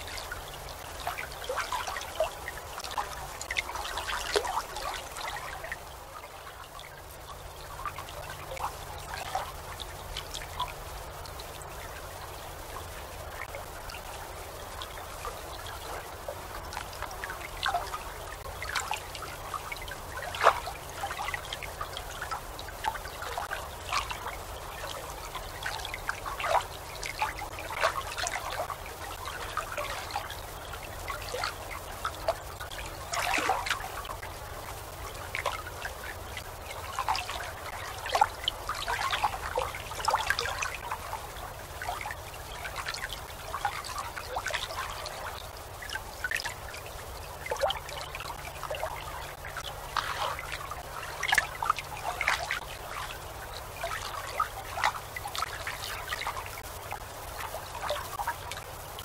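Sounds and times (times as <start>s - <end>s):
small waves lapping: 0.0s - 59.0s.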